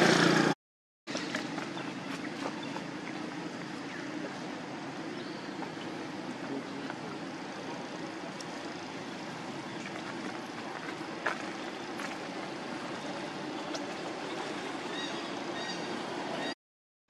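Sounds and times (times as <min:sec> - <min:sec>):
rumbling hiss: 0:01.4 - 0:16.4.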